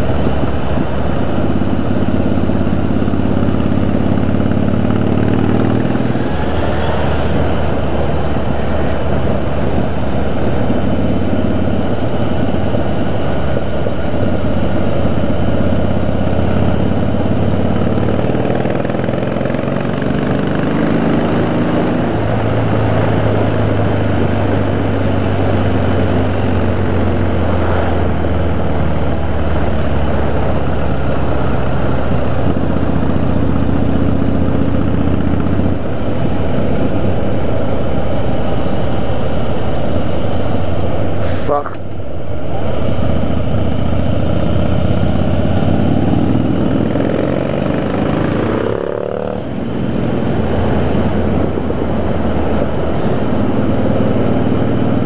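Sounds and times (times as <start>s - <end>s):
motorcycle engine running: 0.0s - 41.3s, 41.9s - 55.0s.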